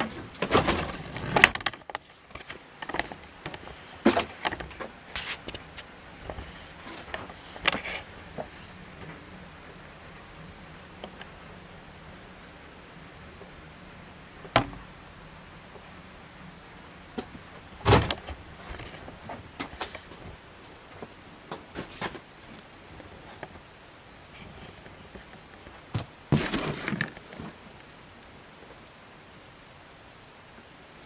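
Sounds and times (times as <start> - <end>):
faint steady hiss: 0.0 - 31.0.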